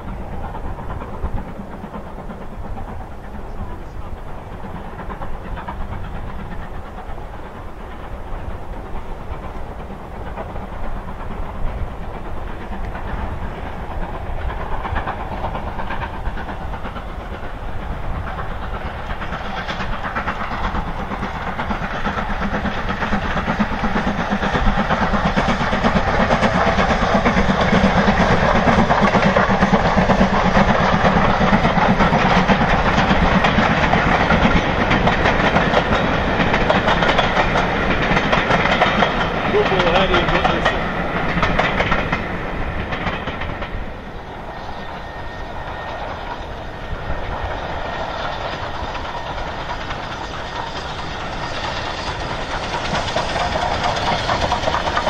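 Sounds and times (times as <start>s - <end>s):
steam train running past: 0.0s - 55.0s.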